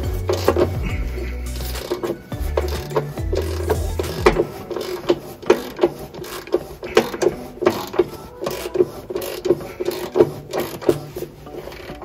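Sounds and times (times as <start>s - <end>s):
hand ratchet clicking: 0.0s - 12.0s.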